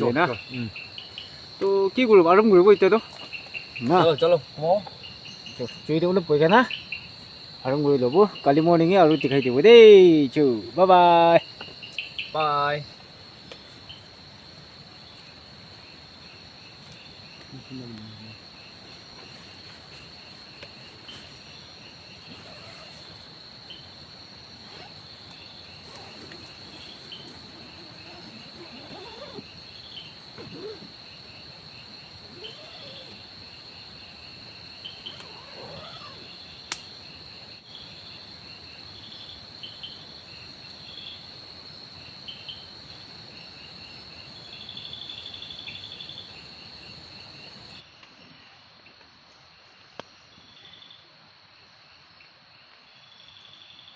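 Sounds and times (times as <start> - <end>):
high-pitched insect trill: 0.0 - 53.9
insects chirping: 0.0 - 53.9.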